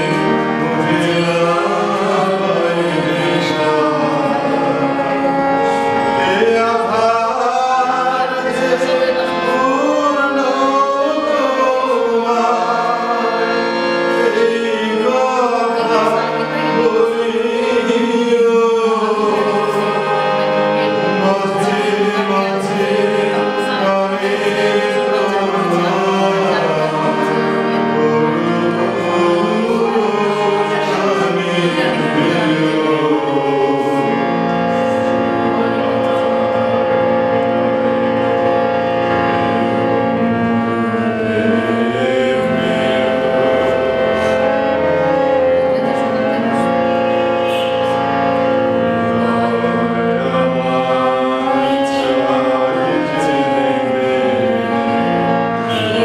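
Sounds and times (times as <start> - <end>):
harmonium: 0.0 - 56.0
voices singing: 0.0 - 56.0.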